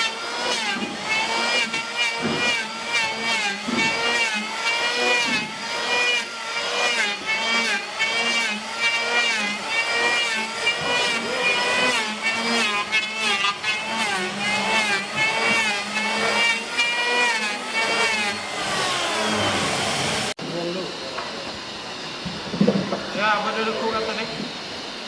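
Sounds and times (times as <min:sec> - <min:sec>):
power tool motor cutting wood: 0:00.0 - 0:25.0.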